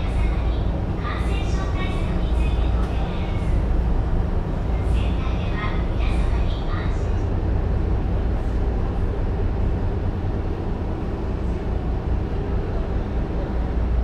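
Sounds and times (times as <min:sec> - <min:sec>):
ferry engine drone: 0:00.0 - 0:14.0.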